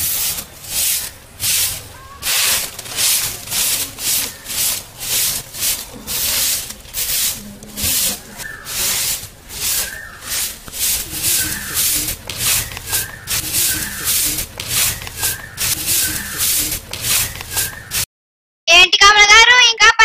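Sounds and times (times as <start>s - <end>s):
broom sweeping dirt: 0.0s - 18.1s.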